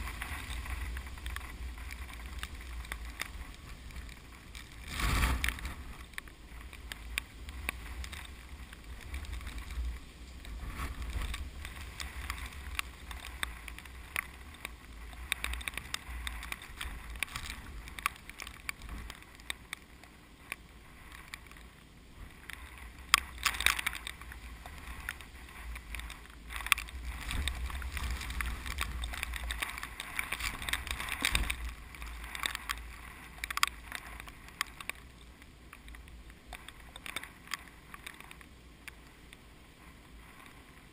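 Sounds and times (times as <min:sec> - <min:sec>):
wind buffeting microphone: 0:00.0 - 0:38.1
wind rustling through plants: 0:00.0 - 0:40.9.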